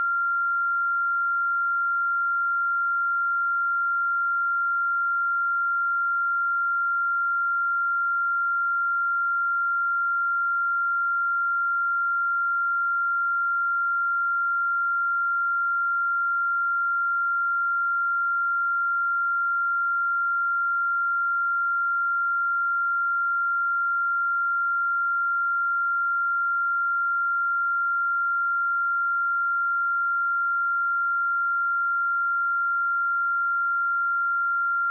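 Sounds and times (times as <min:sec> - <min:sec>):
sine wave test tone: 0:00.0 - 0:34.9.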